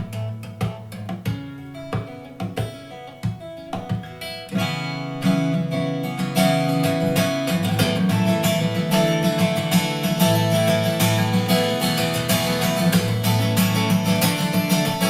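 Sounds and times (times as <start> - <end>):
acoustic guitar through speaker: 0.0 - 15.0.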